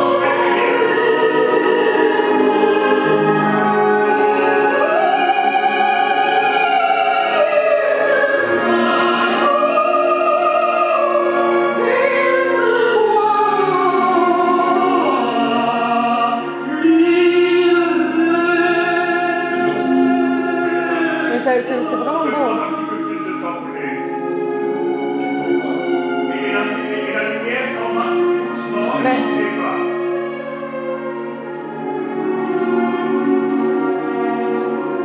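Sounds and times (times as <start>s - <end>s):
operatic singing: 0.0s - 35.0s.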